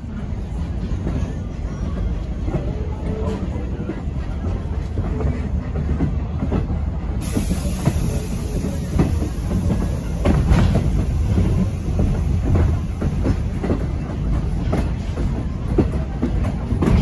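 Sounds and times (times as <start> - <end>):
train coach rumbling: 0.0 - 17.0.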